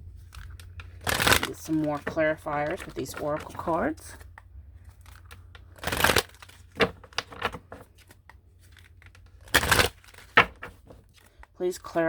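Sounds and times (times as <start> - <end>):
cards being shuffled: 0.1 - 11.5.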